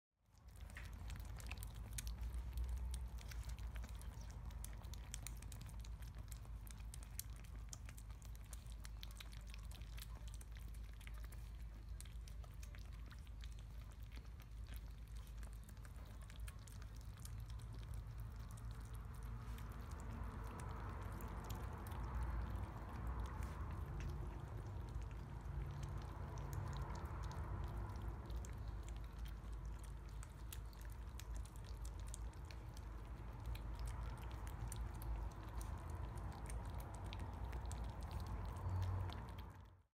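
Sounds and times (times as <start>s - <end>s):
kittens chewing: 0.2s - 39.9s
low steady rumble: 0.2s - 39.9s.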